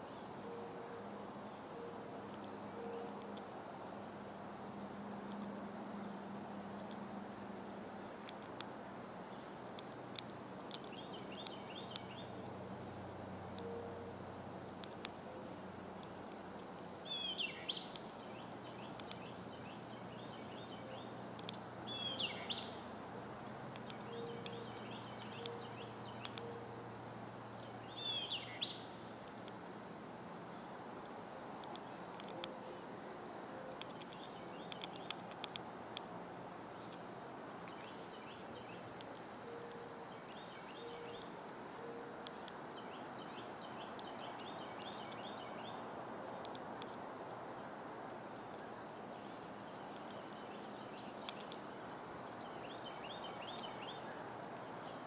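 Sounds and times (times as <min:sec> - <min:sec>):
insect chorus trilling: 0:00.0 - 0:55.0.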